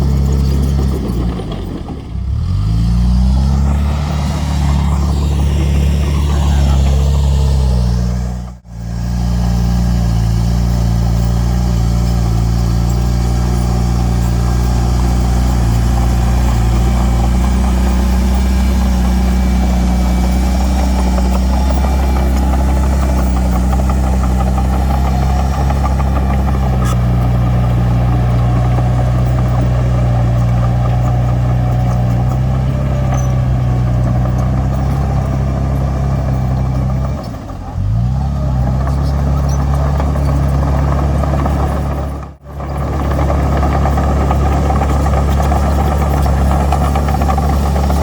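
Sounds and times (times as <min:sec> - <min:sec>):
diesel engine running hard: 0:00.0 - 0:48.0.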